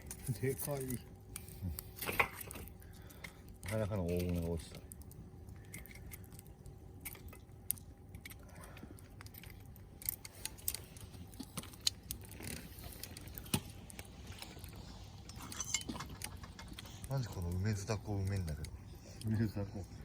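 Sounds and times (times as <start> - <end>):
burning wood popping: 0.0 - 20.0
log fire crackling: 0.0 - 20.0.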